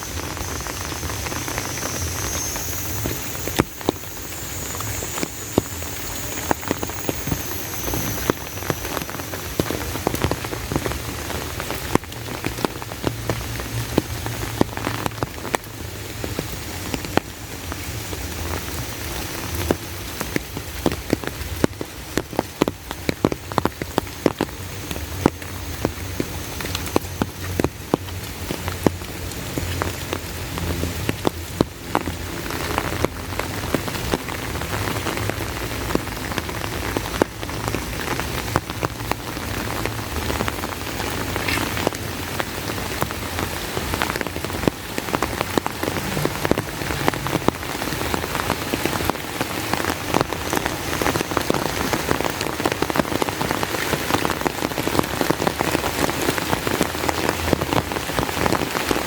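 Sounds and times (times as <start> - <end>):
heavy rain hissing: 0.0 - 59.0
close raindrop taps: 0.1 - 17.4, 19.5 - 59.0.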